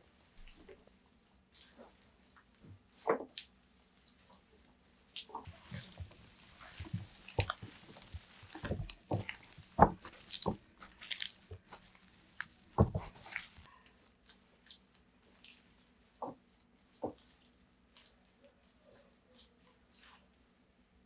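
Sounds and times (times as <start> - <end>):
wet squishing of green onions: 0.1 - 20.4.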